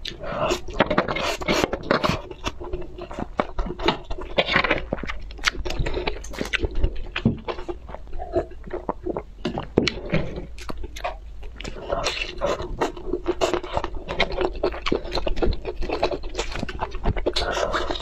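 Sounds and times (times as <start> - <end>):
noodles chewed and slurped: 0.0 - 18.0.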